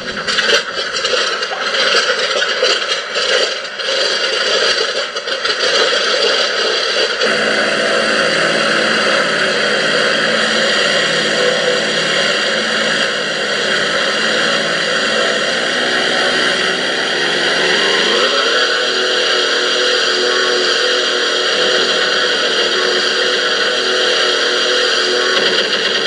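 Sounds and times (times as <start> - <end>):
simulated piston engine idling: 0.0 - 26.0.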